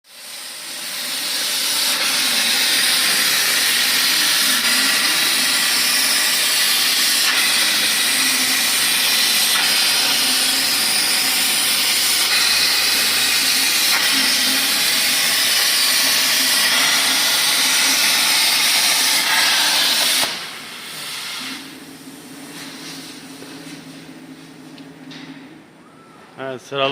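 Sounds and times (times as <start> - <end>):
plasma cutter hissing: 0.1 - 23.1.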